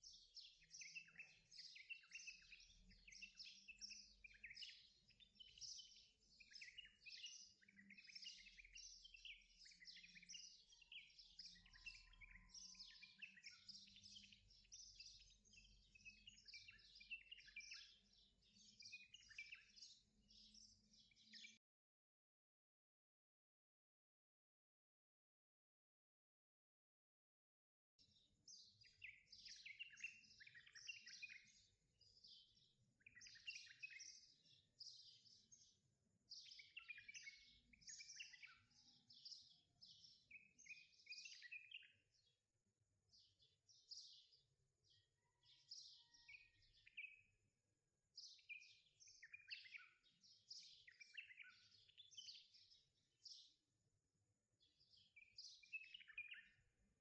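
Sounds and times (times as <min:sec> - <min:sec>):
birds chirping faintly: 0:00.0 - 0:21.7, 0:28.0 - 0:57.0.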